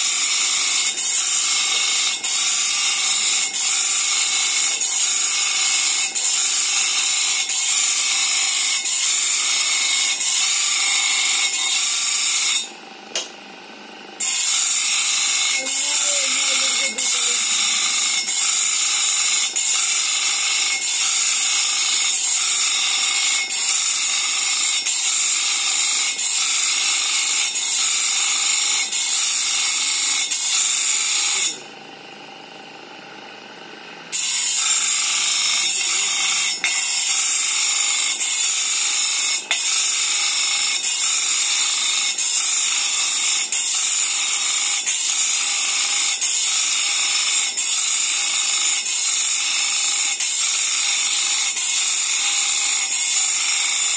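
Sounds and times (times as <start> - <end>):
bench grinder grinding steel: 0.0 - 53.9.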